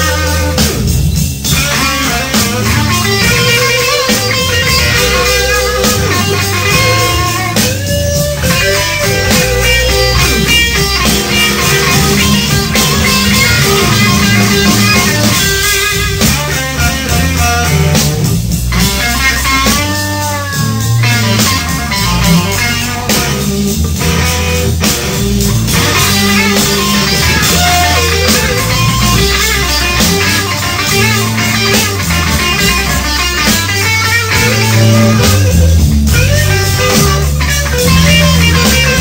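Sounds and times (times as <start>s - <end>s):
blues-rock band playing: 0.0s - 39.0s
electric guitar lead line bending: 0.0s - 39.0s.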